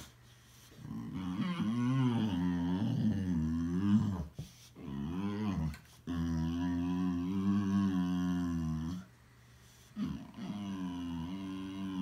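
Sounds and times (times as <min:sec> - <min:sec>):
dog moaning: 0:00.8 - 0:09.1, 0:10.0 - 0:12.0.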